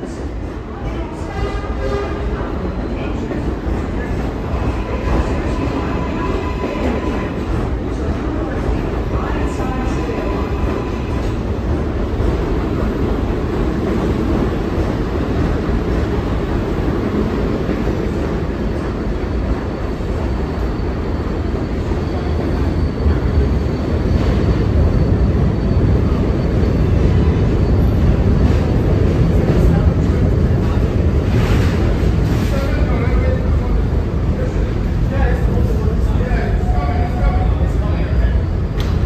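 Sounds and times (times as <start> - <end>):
subway train wheels on rail: 0.0 - 39.0.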